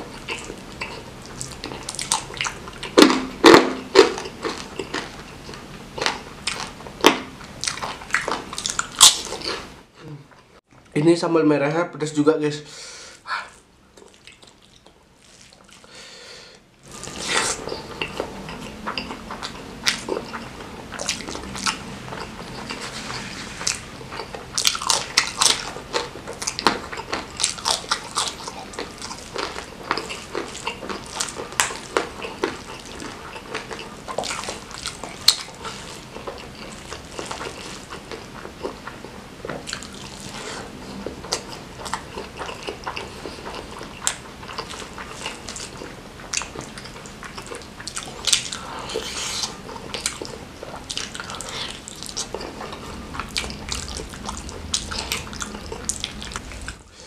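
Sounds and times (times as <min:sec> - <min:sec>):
man chewing and mouth sounds: 0:00.0 - 0:11.0, 0:13.2 - 0:57.0.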